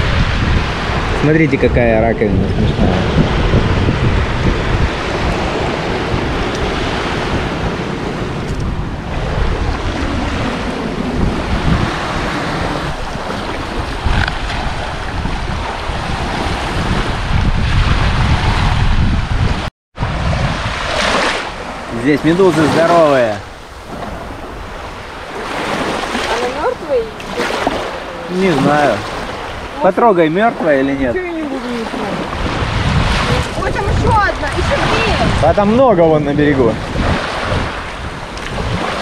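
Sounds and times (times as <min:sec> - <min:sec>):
waves washing onto beach: 0:00.0 - 0:39.0
wind buffeting microphone: 0:00.0 - 0:39.0.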